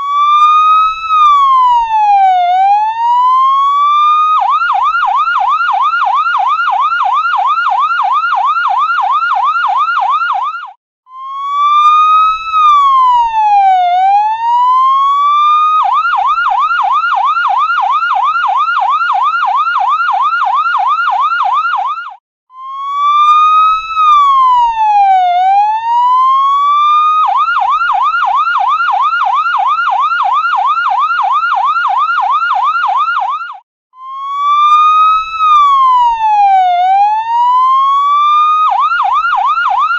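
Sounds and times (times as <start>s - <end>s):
ambulance siren: 0.0s - 39.9s.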